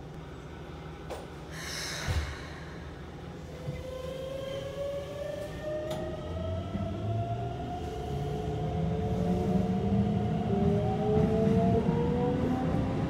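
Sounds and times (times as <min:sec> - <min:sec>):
train car low rumble: 0:00.0 - 0:13.0.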